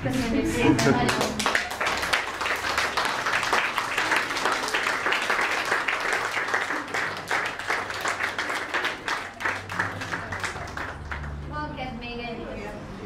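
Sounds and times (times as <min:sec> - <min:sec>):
audience applauding: 0:00.7 - 0:11.5.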